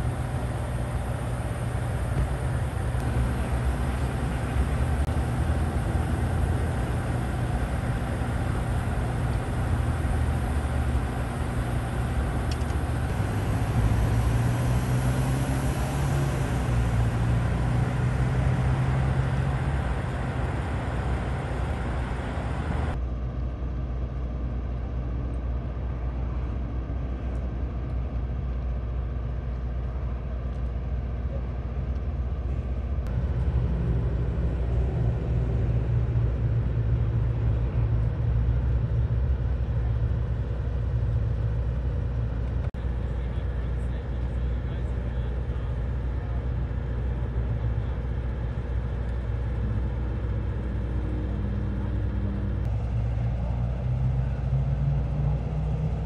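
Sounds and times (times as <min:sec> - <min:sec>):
idling engines and traffic rumble: 0:00.0 - 0:56.0.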